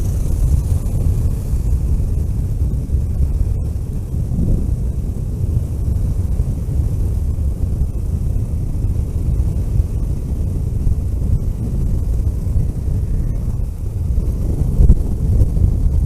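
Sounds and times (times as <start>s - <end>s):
vehicle driving on road: 0.0s - 16.0s
wind buffeting microphone: 0.0s - 16.0s.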